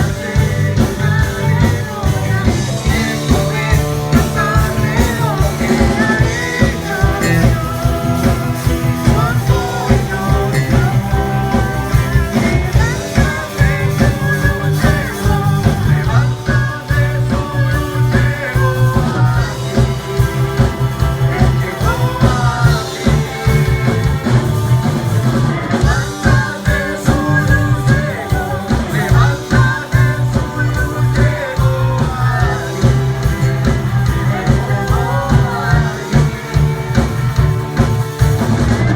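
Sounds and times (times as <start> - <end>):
person singing with live band: 0.0 - 38.9.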